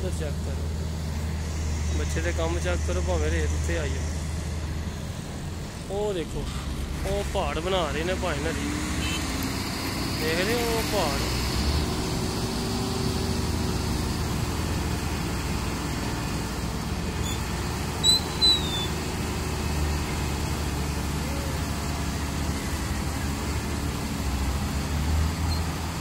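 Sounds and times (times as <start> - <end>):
diesel engines rumbling: 0.0 - 26.0.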